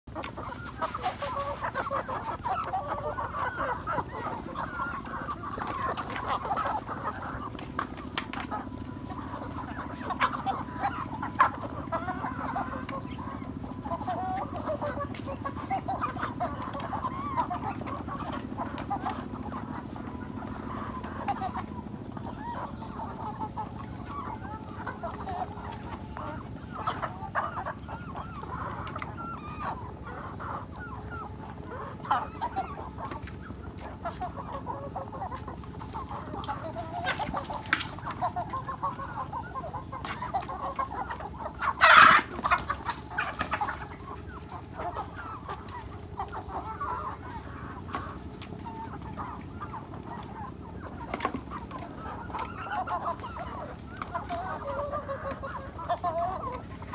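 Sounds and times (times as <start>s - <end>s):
hens clucking: 0.0s - 56.9s
loud hen call: 0.1s - 56.9s.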